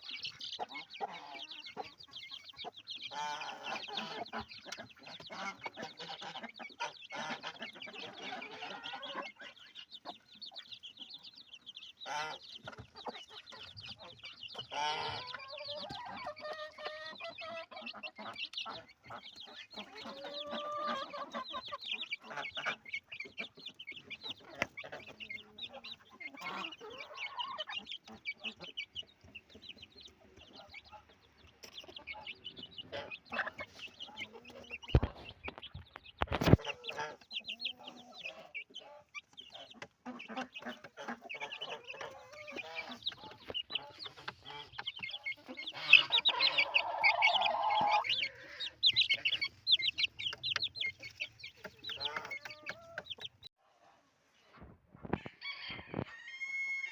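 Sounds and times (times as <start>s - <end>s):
chickens clucking: 0.0s - 56.9s.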